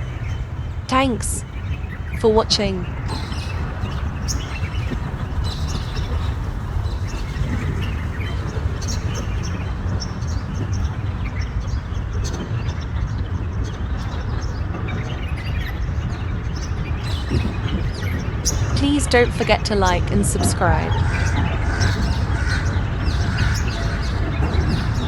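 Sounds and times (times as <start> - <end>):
birds chirping: 0.0 - 12.5, 13.8 - 25.0.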